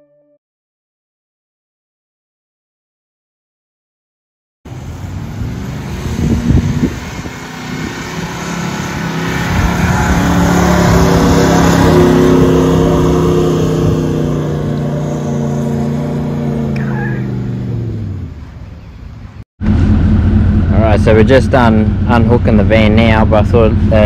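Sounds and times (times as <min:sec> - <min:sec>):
vehicle engine under load: 0:04.7 - 0:24.0.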